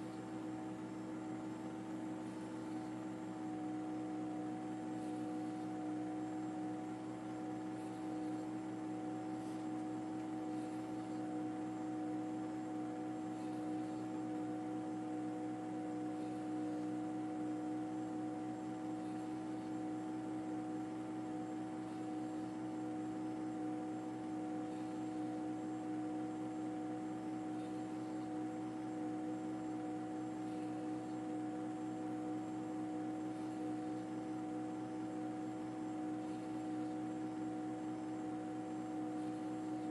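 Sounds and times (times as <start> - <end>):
steady mechanical drone: 0.0 - 39.9.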